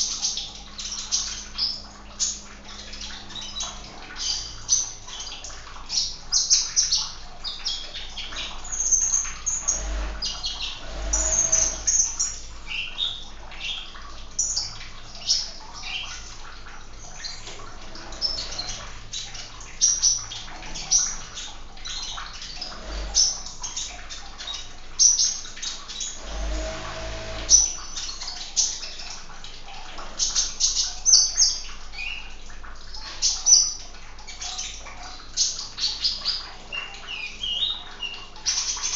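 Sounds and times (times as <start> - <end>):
faint trickle of water: 0.0 - 38.9.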